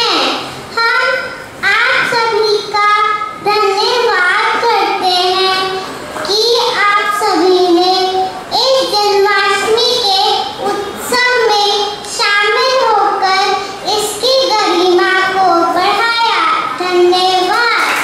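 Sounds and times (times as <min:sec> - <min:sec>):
child singing into microphone: 0:00.0 - 0:18.0.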